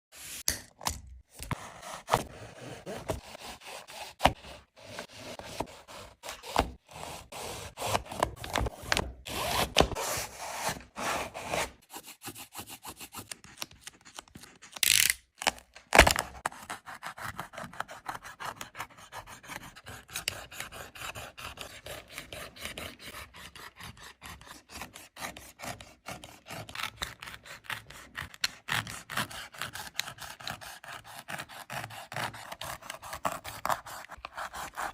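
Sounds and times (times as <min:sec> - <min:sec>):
tool scraping through a shoe: 0:01.4 - 0:13.4, 0:16.4 - 0:34.9.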